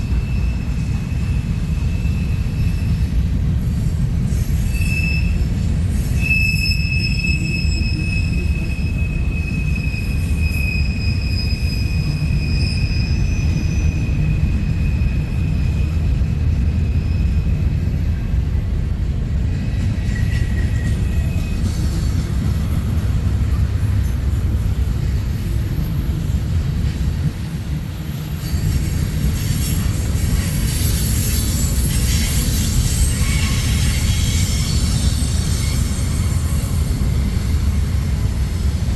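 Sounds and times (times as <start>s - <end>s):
freight train rumbling on rails: 0.0s - 38.9s
train wheel squeal: 0.0s - 38.9s.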